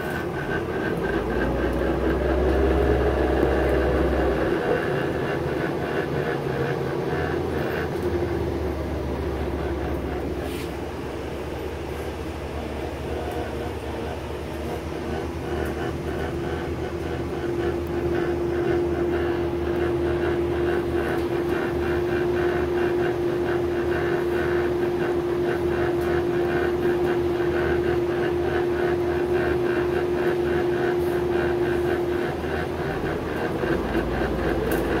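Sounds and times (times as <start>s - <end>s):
bus drivetrain whine: 0.0s - 35.0s.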